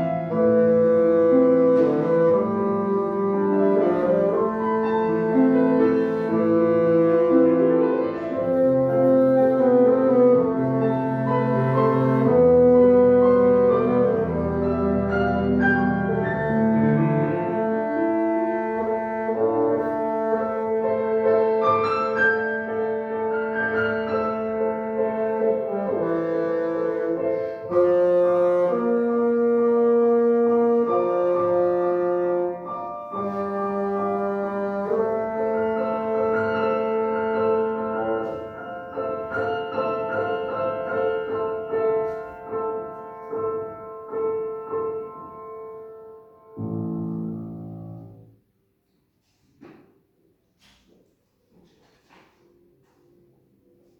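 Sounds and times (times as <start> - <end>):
bassoon slow melody: 0.0 - 48.4
piano accompaniment: 0.0 - 48.8.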